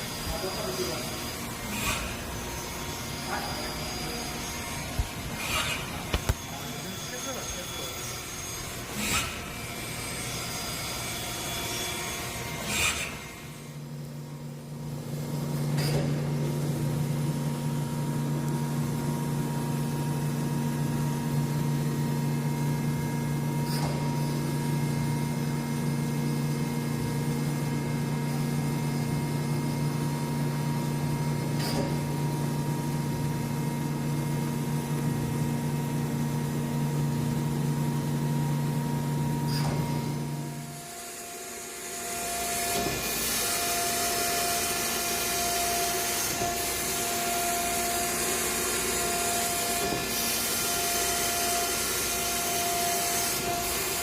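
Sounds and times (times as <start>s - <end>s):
grinding machine humming: 0.0s - 54.0s.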